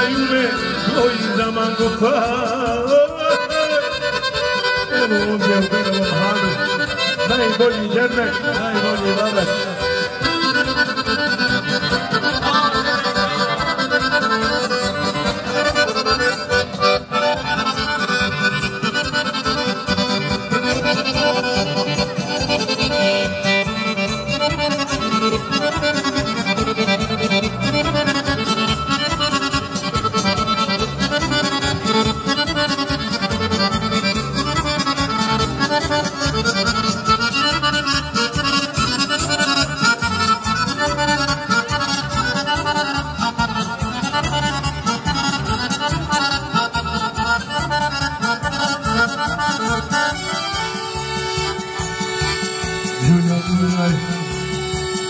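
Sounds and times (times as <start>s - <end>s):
accordion folk music: 0.0s - 55.0s.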